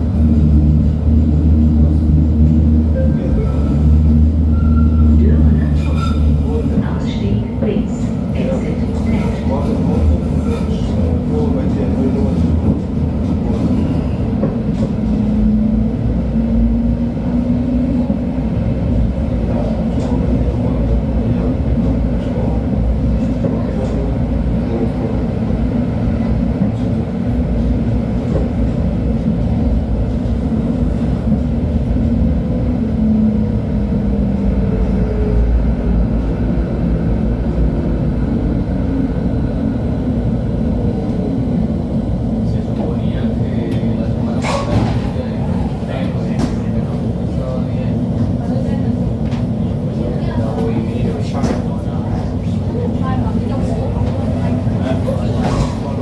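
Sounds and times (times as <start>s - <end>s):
train drive hum: 0.0s - 56.0s
wheels rumbling on rail: 0.0s - 56.0s.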